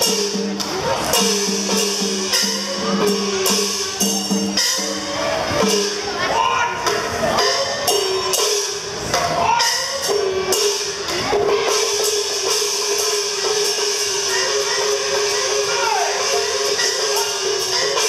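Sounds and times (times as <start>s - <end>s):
cymbal strikes: 0.0s - 18.0s
drum strikes: 0.0s - 18.0s.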